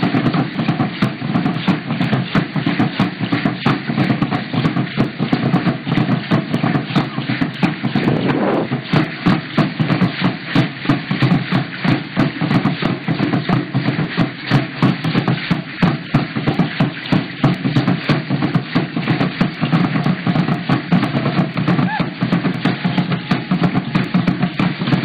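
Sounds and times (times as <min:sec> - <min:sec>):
drum beaten in steady rhythm: 0:00.0 - 0:25.0.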